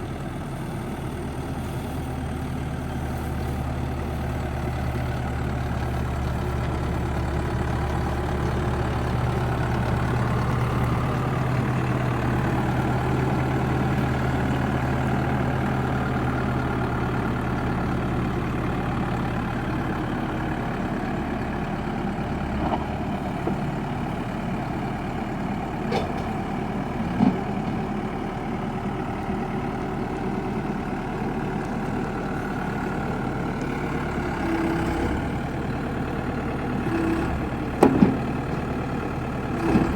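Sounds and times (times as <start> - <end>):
backhoe engine idling: 0.0 - 39.9.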